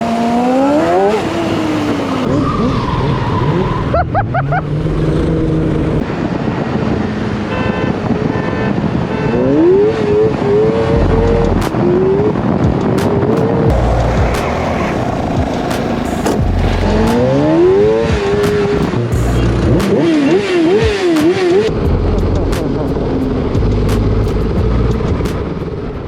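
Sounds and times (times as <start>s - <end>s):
go-kart engines revving: 0.0s - 7.4s, 9.1s - 25.9s.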